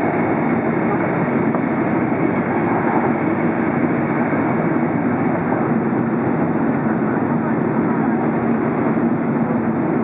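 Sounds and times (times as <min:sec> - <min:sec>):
train rumbling inside cabin: 0:00.0 - 0:10.0.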